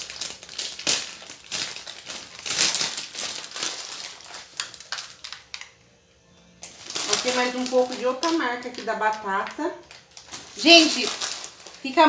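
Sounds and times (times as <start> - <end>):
plastic bag crinkling: 0.0 - 5.8, 6.6 - 12.0.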